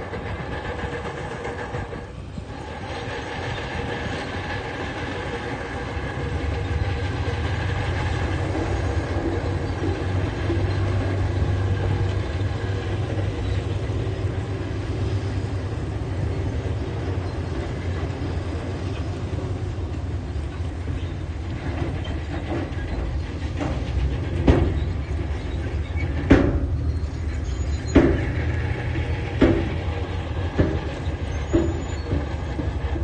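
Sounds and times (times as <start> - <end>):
diesel engine running: 0.0 - 33.0
track clatter: 0.0 - 33.0.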